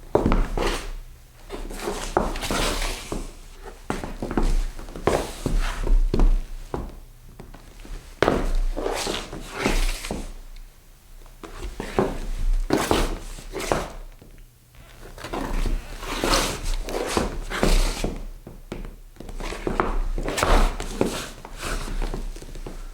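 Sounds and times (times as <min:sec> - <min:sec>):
shoes scuffing on wooden floor: 0:00.1 - 0:10.4, 0:11.4 - 0:22.9.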